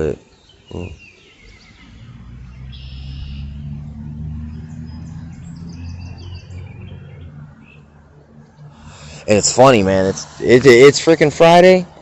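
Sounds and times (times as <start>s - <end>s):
small birds chirping: 0.0s - 11.0s
low engine rumble: 0.0s - 12.0s.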